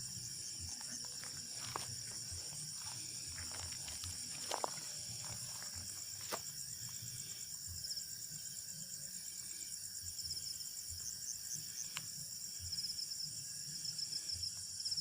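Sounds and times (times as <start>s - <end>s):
crickets chirping: 0.0s - 15.0s
pulsed insect trills: 0.0s - 15.0s.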